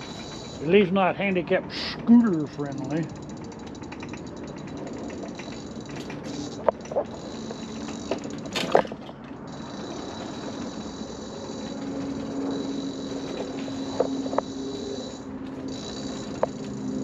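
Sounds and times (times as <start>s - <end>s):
electric scooter humming: 0.0s - 17.0s.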